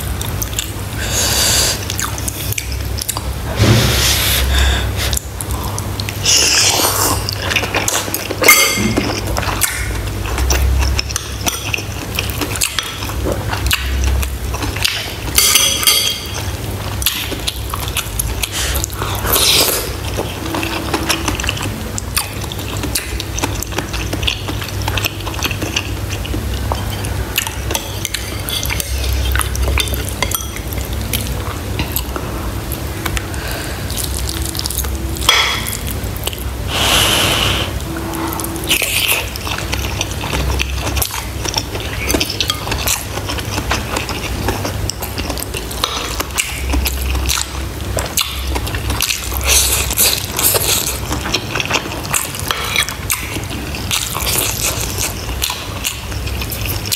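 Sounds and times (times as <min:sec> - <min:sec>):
wet chewing: 0:00.0 - 0:03.4, 0:04.1 - 0:36.9, 0:37.7 - 0:56.9.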